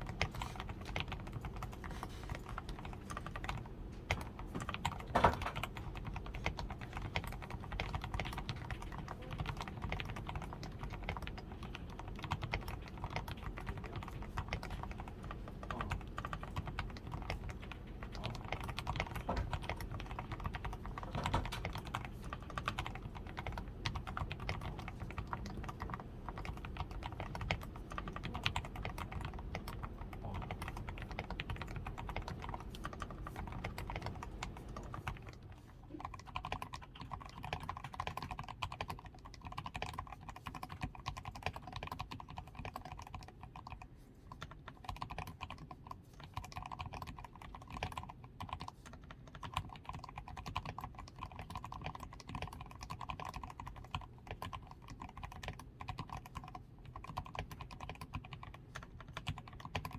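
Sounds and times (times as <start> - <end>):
typing on mechanical keyboard: 0.0 - 59.9.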